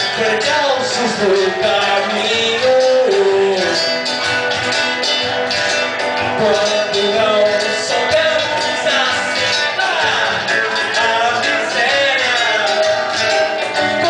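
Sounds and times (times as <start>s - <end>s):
acoustic guitar strumming: 0.0s - 14.0s
cajon beat: 0.0s - 14.0s
electric guitar: 0.0s - 14.0s.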